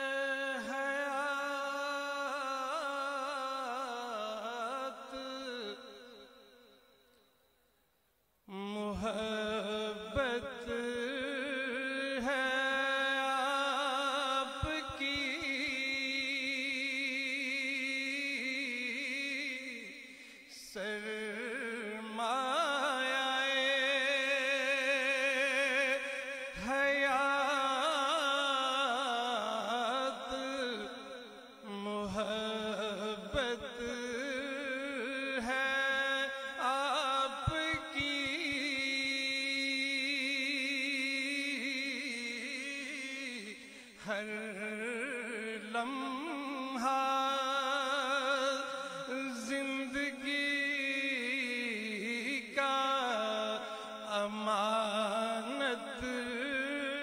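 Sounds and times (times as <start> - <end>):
man singing: 0.0 - 7.1, 8.5 - 57.0.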